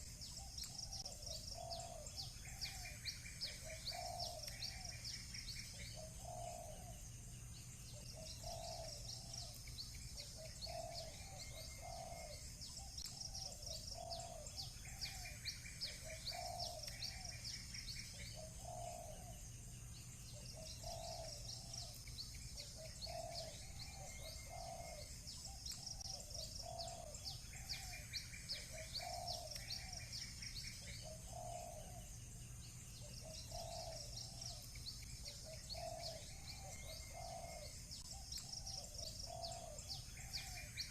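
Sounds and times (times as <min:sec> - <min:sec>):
doves cooing: 0:00.0 - 0:07.1, 0:07.9 - 0:19.5, 0:20.3 - 0:32.2, 0:33.0 - 0:40.9
small birds chirping: 0:00.0 - 0:40.9
steady low hum: 0:00.0 - 0:40.9.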